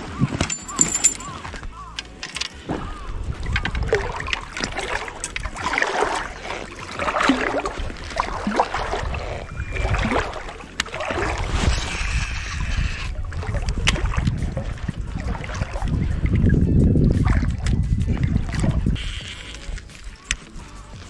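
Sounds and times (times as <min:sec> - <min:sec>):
water sloshing and gurgling: 0:02.6 - 0:20.2
wind rumble on microphone: 0:02.7 - 0:20.2.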